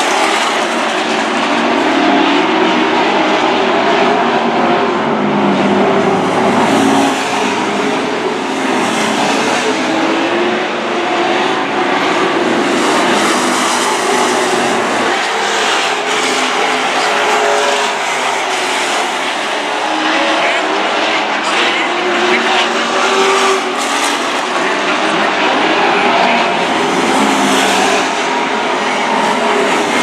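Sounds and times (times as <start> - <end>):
racing truck engines: 0.0 - 30.0.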